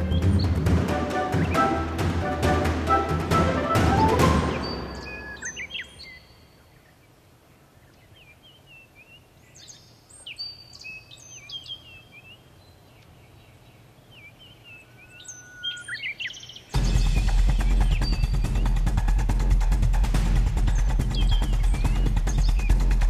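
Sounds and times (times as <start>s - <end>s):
small birds chirping: 0.0s - 1.9s, 4.0s - 23.0s.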